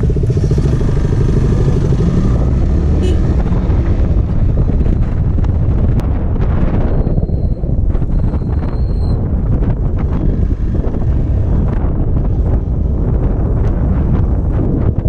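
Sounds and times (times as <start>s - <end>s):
motorcycle engine accelerating: 0.0s - 15.0s
wind noise on microphone: 0.0s - 15.0s.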